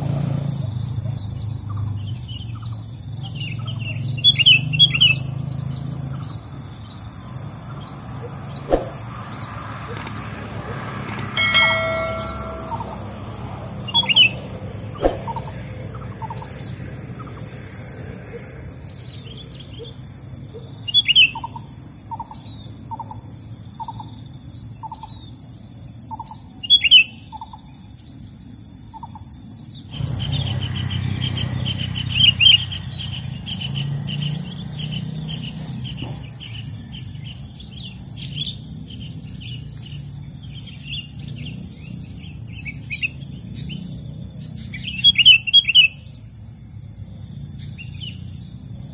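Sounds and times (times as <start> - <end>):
high insect drone: 0.0 - 48.9
small birds chirping: 0.6 - 13.1, 18.8 - 28.2, 29.0 - 48.9.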